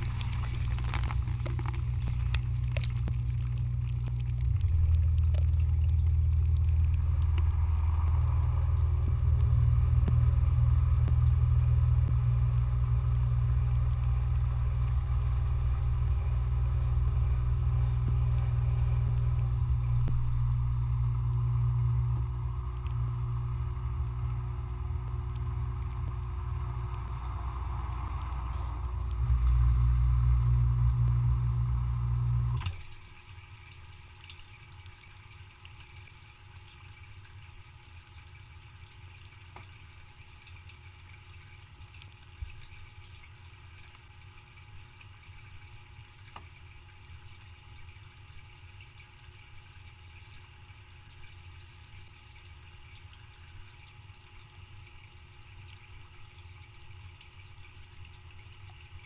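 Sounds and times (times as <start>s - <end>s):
dishwasher pump humming: 0.0s - 59.0s
water washing inside dishwasher: 0.0s - 59.0s.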